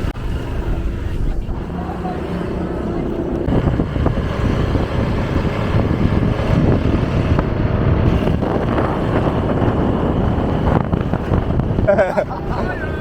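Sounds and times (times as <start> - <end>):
vehicle running rumble: 0.0 - 13.0
wind buffeting microphone: 0.0 - 13.0.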